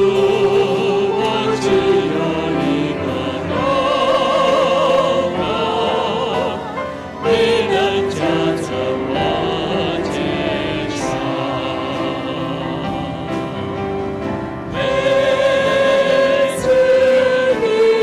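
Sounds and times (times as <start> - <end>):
instrumental accompaniment: 0.0 - 18.0
person singing a hymn: 0.0 - 18.0.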